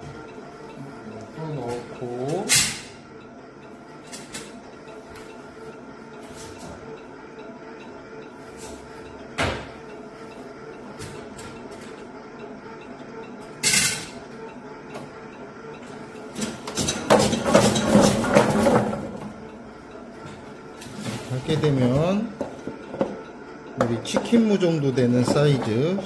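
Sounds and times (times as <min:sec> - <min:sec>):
vegetable cutter machine hum: 0:03.7 - 0:26.0.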